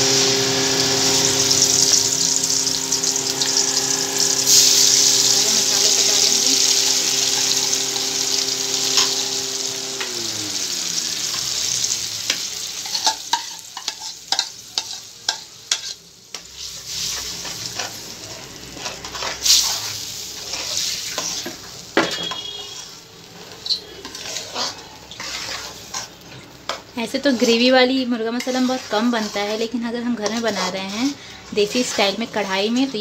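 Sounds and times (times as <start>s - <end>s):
puree sizzling in hot oil: 0.0s - 33.0s
spatula scraping a pan: 0.1s - 9.5s, 12.3s - 33.0s.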